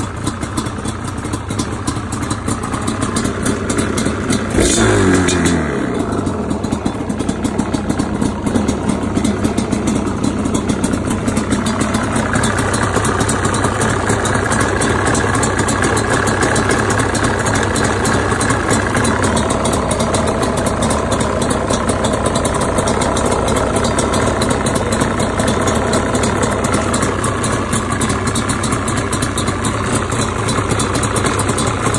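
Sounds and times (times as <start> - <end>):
motorcycle engine revving and idling: 0.0 - 31.9.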